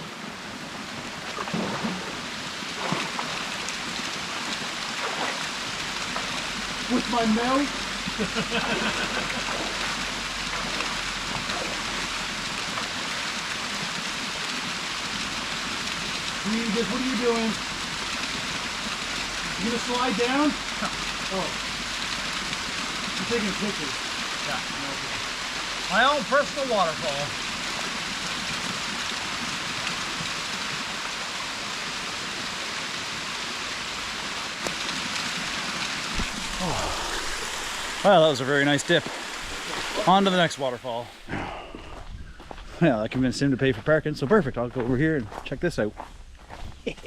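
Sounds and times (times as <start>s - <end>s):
small waterfall splashing: 0.0s - 41.3s.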